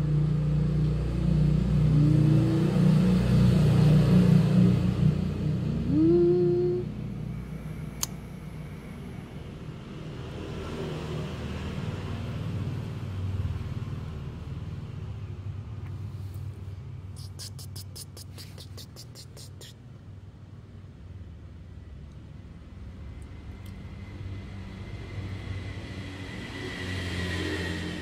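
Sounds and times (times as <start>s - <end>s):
low engine rumble: 0.0s - 26.7s.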